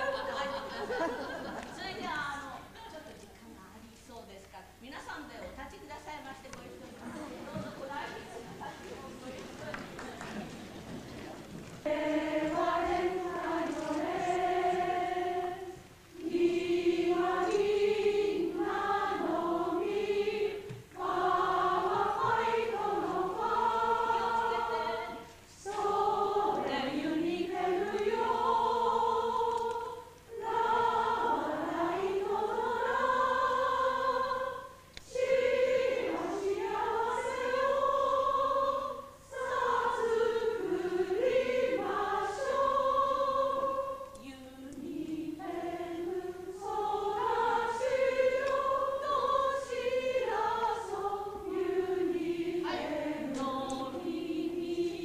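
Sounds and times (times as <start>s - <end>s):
group singing slow song: 0.0s - 2.0s, 11.7s - 55.0s.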